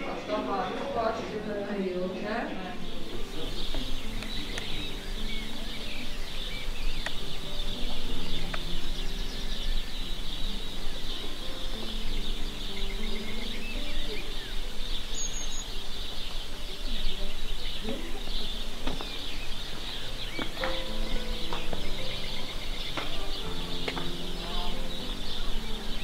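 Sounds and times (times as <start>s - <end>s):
murmur of distant voices: 0.0s - 26.0s
small birds chirping: 0.0s - 26.0s.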